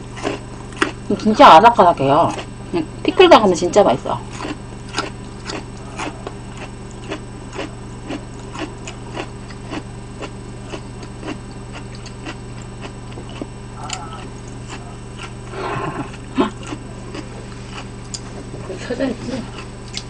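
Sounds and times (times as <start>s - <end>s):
faint whine: 0.0s - 20.0s
low electrical hum: 0.0s - 20.0s
crunchy chewing: 0.1s - 1.2s, 4.2s - 20.0s.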